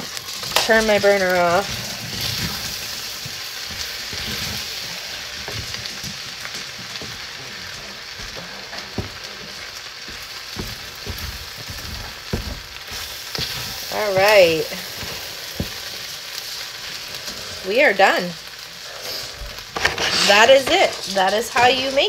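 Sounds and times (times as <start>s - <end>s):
rice sizzling in frying pan: 0.0s - 22.0s.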